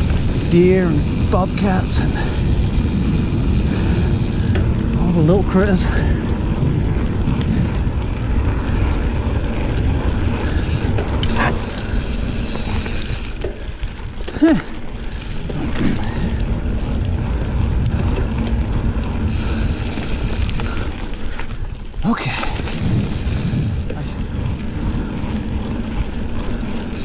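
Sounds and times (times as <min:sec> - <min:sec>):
bike rattles and clicks: 0:00.0 - 0:27.0
bike tyres rumbling on dirt: 0:00.0 - 0:27.0
wind on microphone: 0:00.0 - 0:27.0.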